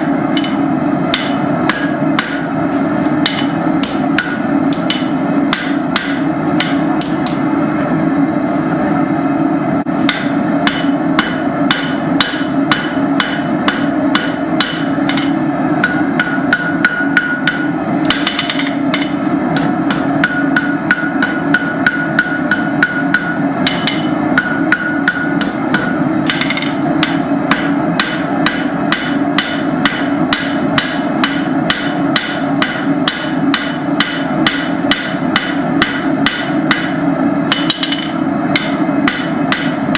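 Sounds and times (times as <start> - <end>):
hammer striking steel on anvil: 0.3 - 2.6, 3.2 - 7.4, 10.0 - 39.9.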